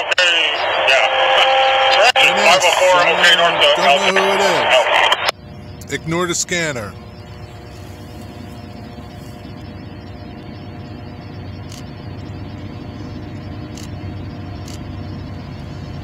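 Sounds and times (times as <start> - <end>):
diesel locomotive engines droning: 0.0 - 16.0.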